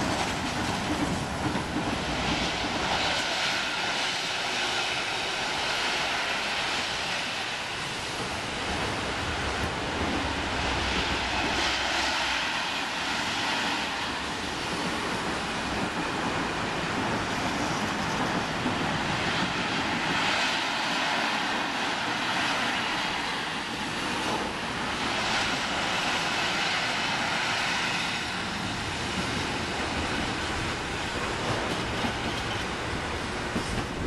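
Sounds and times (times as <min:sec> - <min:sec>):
train wheels rolling on rails: 0:00.0 - 0:34.0.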